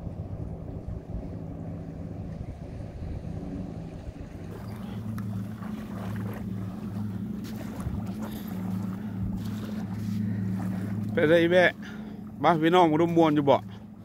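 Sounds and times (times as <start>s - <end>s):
distant motorboat engine hum: 0.0s - 14.0s.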